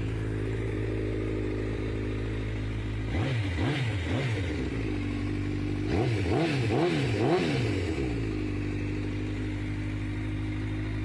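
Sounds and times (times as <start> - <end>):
motorcycle engine idling and blipped: 0.0 - 11.0.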